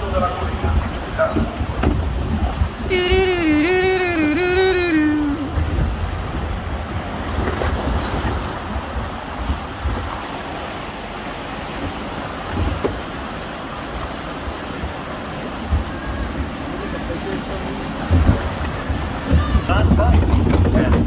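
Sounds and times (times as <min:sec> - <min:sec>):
low buffeting: 0:00.0 - 0:21.0
ride train rumbling and rattling: 0:00.0 - 0:21.0.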